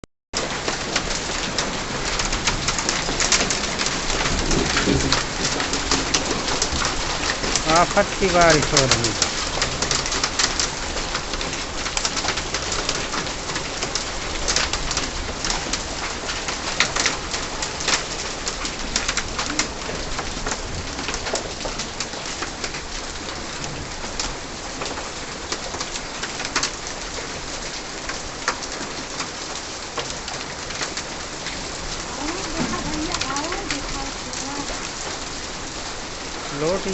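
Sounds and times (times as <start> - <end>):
heavy rain on hard surface: 0.4 - 36.9.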